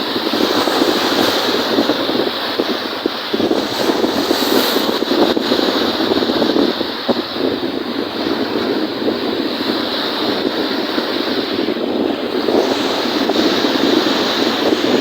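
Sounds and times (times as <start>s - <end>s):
waves rushing on a lake: 0.0s - 15.0s
wind buffeting microphone: 0.0s - 15.0s.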